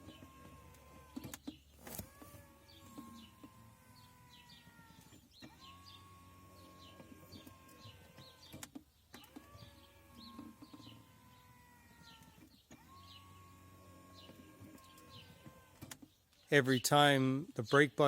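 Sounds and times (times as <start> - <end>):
faint motor whine: 0.0 - 16.0
birds chirping faintly: 0.0 - 18.0.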